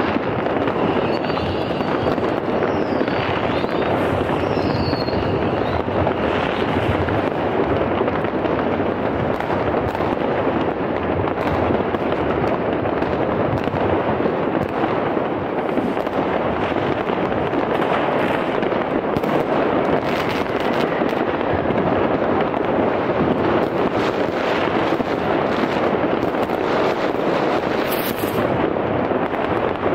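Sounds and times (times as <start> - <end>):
fireworks crackling: 0.0 - 29.9
loud firework bangs: 0.0 - 29.9.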